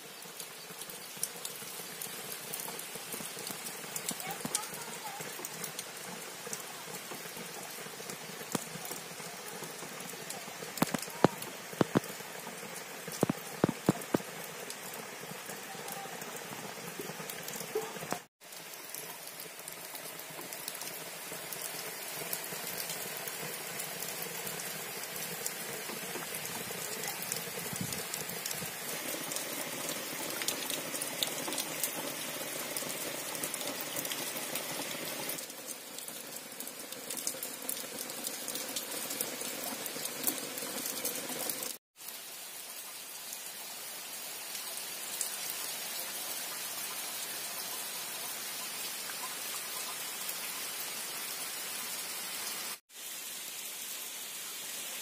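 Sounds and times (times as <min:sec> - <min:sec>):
heavy rain on plants and stone: 0:00.0 - 0:55.0.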